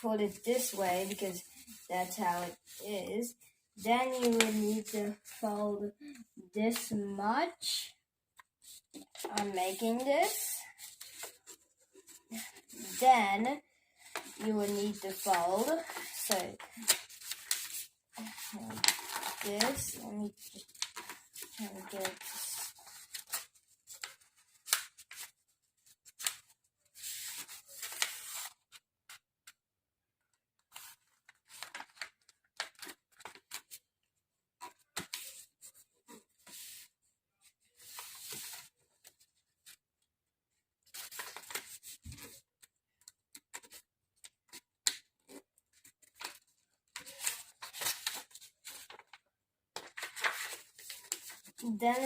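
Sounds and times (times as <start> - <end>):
paper being folded and creased: 0.1 - 7.0, 8.6 - 29.6, 30.6 - 33.9, 34.6 - 39.8, 40.8 - 52.0.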